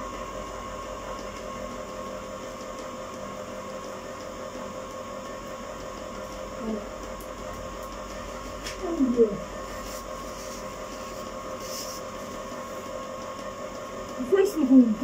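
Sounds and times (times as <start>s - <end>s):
ice cream maker humming: 0.0s - 15.0s.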